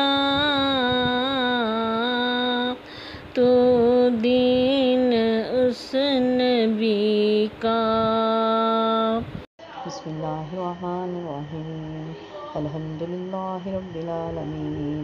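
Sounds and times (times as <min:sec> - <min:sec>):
woman singing long held notes: 0:00.0 - 0:15.0.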